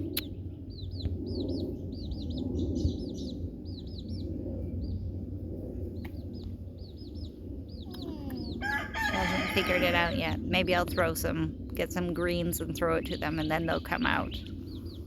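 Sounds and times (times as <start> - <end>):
baby chicks peeping: 0.0 - 15.0
steady low hum: 0.0 - 15.0.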